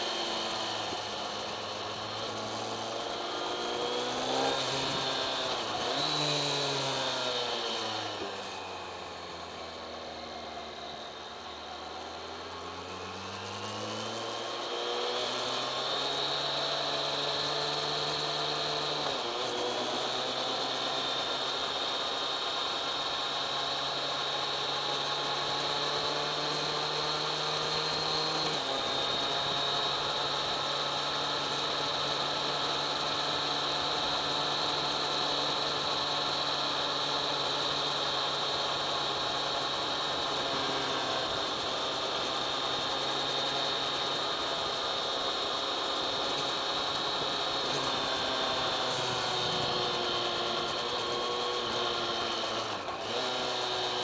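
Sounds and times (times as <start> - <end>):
motorcycle engine revving: 0.0 - 8.7, 12.2 - 54.0.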